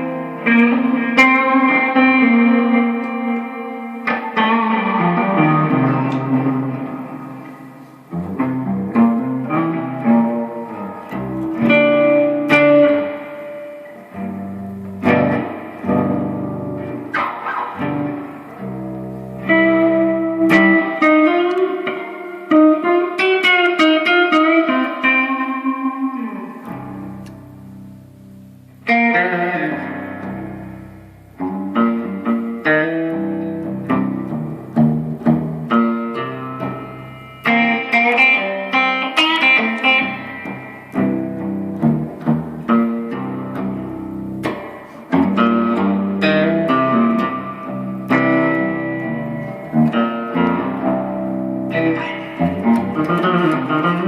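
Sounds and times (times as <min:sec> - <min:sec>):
guitar playing: 0:00.0 - 0:54.0.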